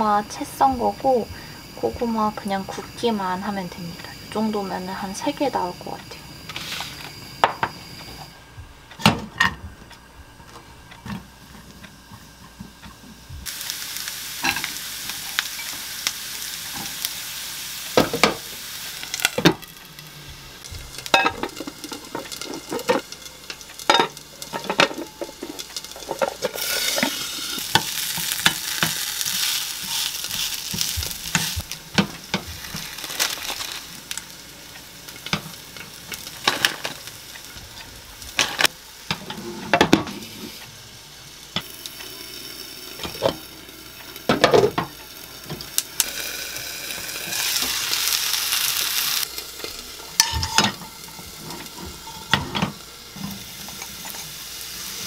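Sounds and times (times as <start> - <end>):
food sizzling in oil: 0.0 - 9.6, 10.6 - 55.0.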